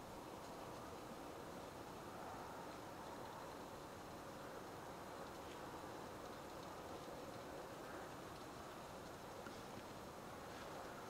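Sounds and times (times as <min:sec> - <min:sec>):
background hiss: 0:00.0 - 0:11.0
faint ticks: 0:00.0 - 0:11.0.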